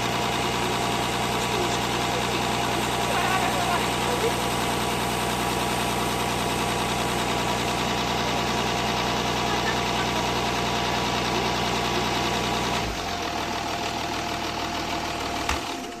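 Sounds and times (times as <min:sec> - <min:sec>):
diesel car engine idling: 0:00.0 - 0:16.0
engine knock: 0:00.0 - 0:16.0.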